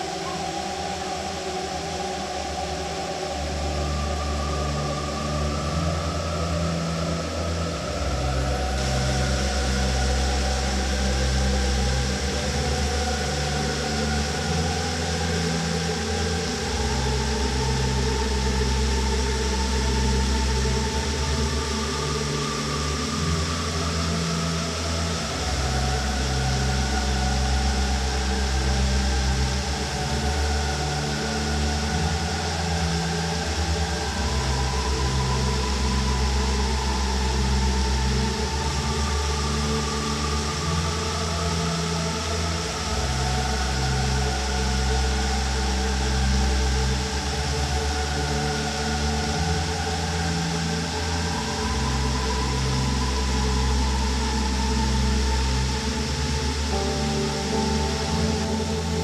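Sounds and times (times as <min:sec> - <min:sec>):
slow ambient music: 0:00.0 - 0:59.0.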